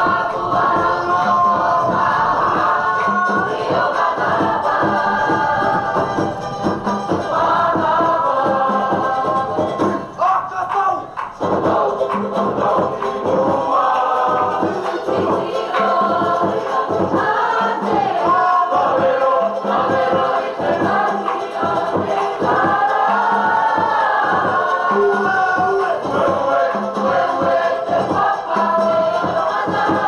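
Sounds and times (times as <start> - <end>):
group singing in chorus: 0.0 - 30.0
percussion beat: 0.0 - 30.0.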